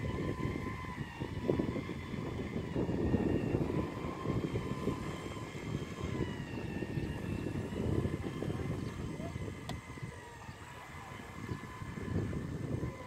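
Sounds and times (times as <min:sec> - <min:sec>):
toy boat motors whining: 0:00.0 - 0:13.0.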